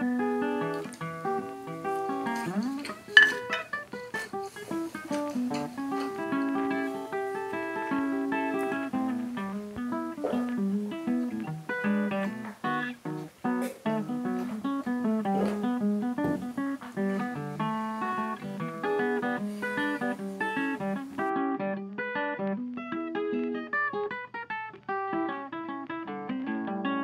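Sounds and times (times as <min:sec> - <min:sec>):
plucked guitar music: 0:00.0 - 0:27.0.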